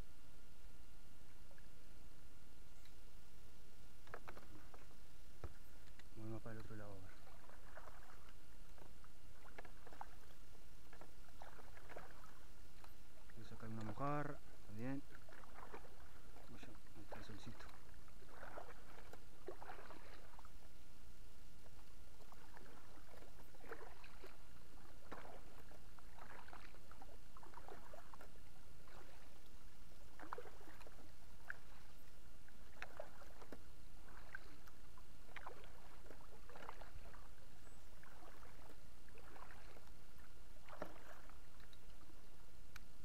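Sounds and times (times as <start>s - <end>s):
steady low hum: 0.0s - 43.0s
paddle splashing in water: 4.0s - 20.7s, 21.6s - 42.1s.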